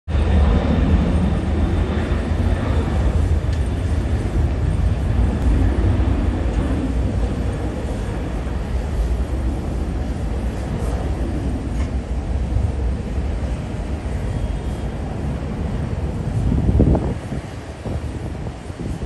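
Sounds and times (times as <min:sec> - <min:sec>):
jet airliner taking off: 0:00.1 - 0:19.0.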